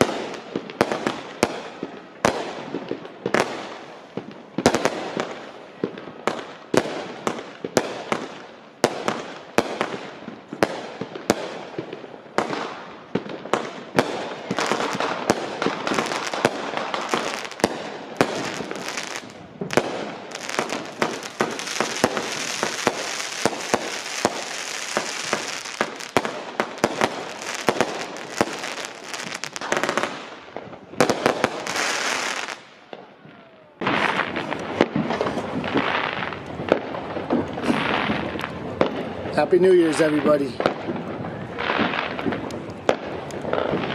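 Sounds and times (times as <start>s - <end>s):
hissing crackle of fireworks: 0.0s - 43.9s.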